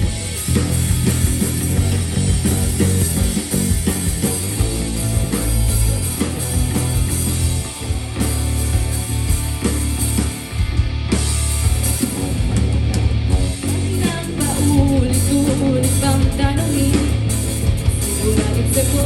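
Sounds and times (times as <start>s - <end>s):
bass guitar: 0.0s - 19.0s
drum kit: 0.0s - 19.0s
electric guitar: 0.0s - 19.0s.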